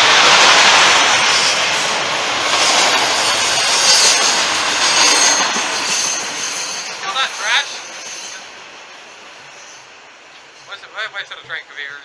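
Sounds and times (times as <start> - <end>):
freight train rolling past: 0.0 - 12.0
steel wheels rushing on rails: 0.0 - 12.0.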